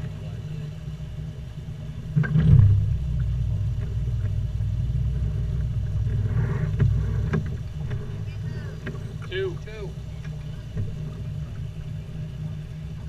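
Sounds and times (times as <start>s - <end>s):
outboard motor idling and revving: 0.0s - 13.0s.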